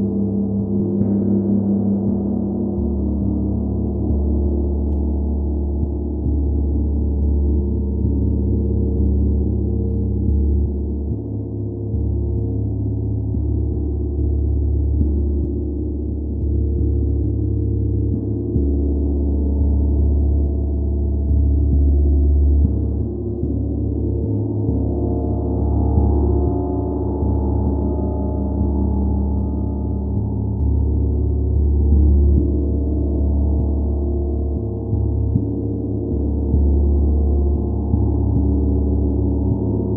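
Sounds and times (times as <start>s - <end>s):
large gong sustained hum: 0.0s - 39.9s.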